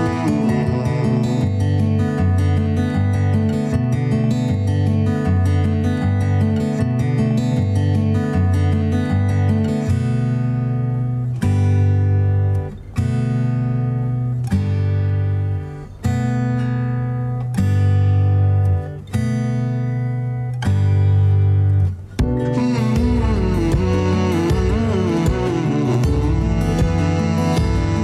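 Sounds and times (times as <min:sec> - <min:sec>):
acoustic guitar strumming chords: 0:00.0 - 0:28.0.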